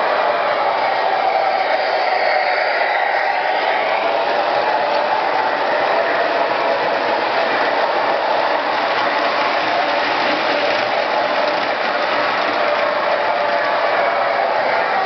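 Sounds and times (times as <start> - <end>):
model trains whirring and rattling: 0.0 - 15.0.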